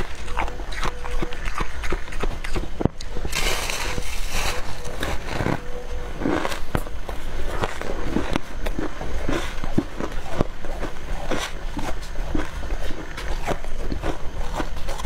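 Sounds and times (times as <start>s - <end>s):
frost chunks crunching as chewed: 0.0s - 15.0s.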